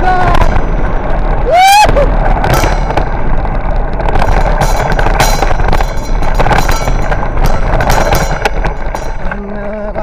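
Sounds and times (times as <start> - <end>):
bike rattling on gravel: 0.0 - 10.0
wind buffeting microphone: 0.0 - 10.0.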